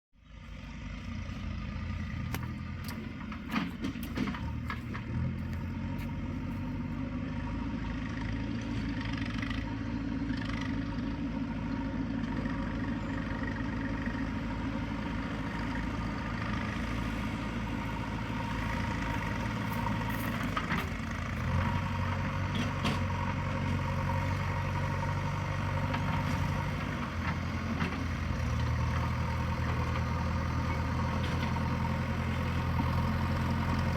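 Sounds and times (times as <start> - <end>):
heavy diesel engine running: 0.2 - 33.9.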